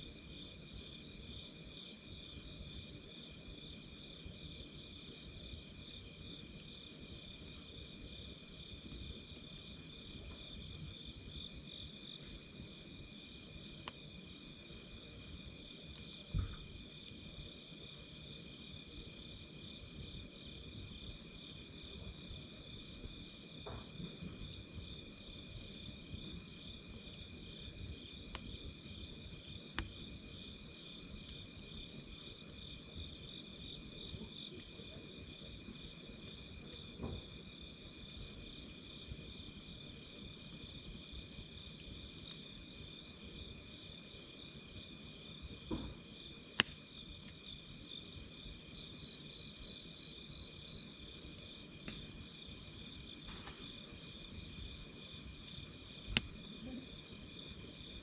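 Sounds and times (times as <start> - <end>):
campfire crackling and popping: 0.2 - 58.0
insects chirring: 2.5 - 58.0.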